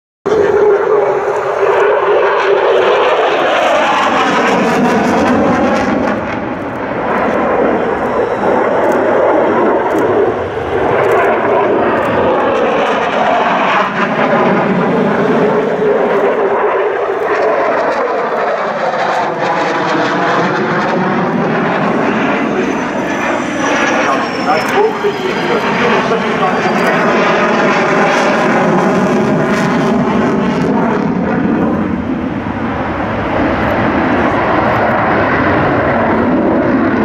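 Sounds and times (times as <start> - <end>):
jet engine roaring: 0.3 - 37.0.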